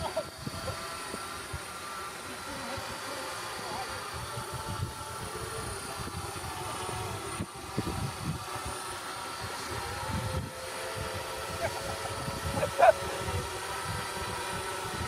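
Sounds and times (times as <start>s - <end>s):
quadcopter drone whine: 0.0s - 15.0s.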